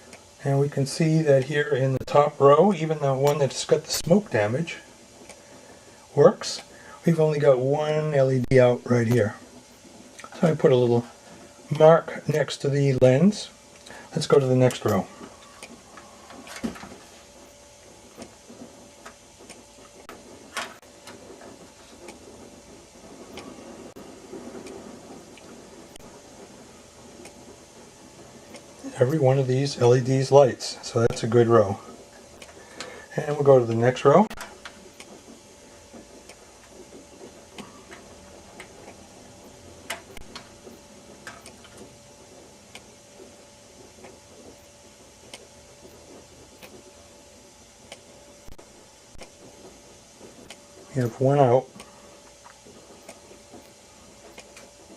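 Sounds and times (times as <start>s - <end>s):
faint steady hum: 0.0s - 54.9s
tester probes clicking and tapping: 3.1s - 5.4s, 6.5s - 47.1s, 47.7s - 54.9s.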